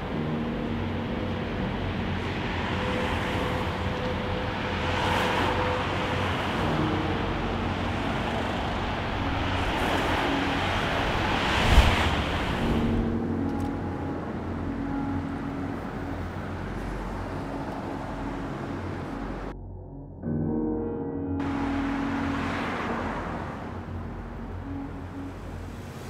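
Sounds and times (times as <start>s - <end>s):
road traffic with cars passing: 0.0s - 19.6s, 21.4s - 26.0s.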